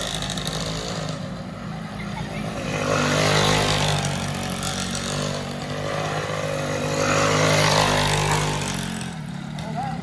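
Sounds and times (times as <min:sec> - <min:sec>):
motorcycle engine running hard: 0:00.0 - 0:10.0.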